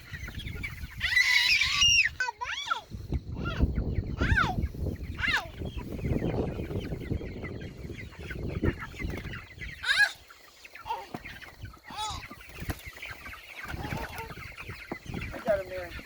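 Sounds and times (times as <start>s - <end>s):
chicks peeping and cheeping: 0.0s - 16.0s.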